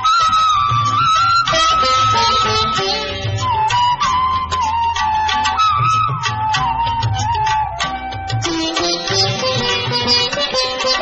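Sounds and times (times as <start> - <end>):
sliding melody line: 0.0 - 11.0.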